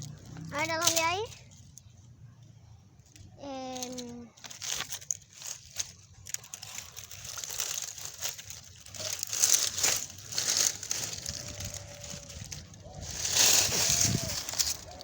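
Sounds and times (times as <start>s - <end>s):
dry leaves and twigs crunching: 0.0s - 15.0s.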